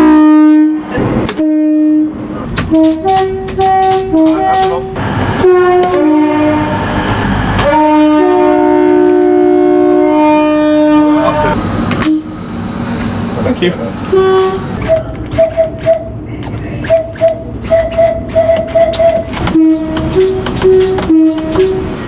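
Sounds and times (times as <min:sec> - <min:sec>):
train air horn blasts: 0:00.0 - 0:12.4, 0:14.1 - 0:16.1, 0:16.8 - 0:22.0.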